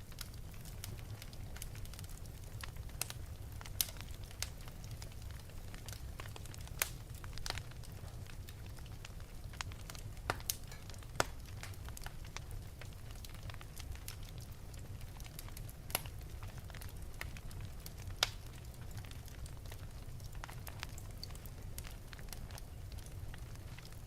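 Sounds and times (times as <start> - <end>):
fire crackling and popping: 0.0 - 24.0
low rumble of fire: 0.0 - 24.0.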